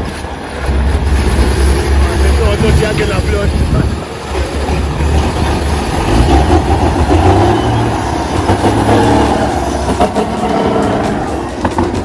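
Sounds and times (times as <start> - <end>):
heavy diesel truck engine rumbling: 0.0 - 12.0.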